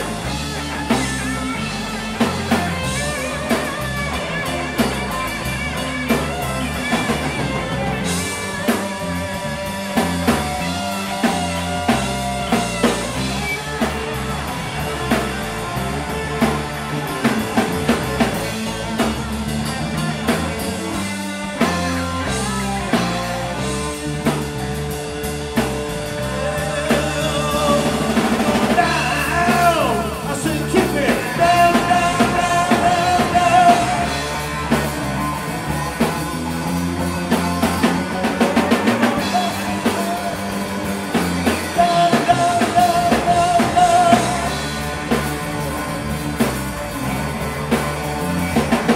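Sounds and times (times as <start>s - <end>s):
lead guitar bent notes: 0.0s - 48.9s
live rock band playing: 0.0s - 48.9s.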